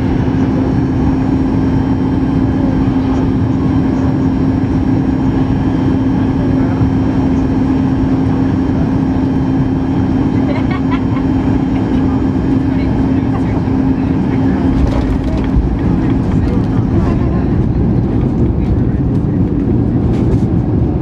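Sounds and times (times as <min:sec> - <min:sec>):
airplane cabin engine hum: 0:00.0 - 0:21.0.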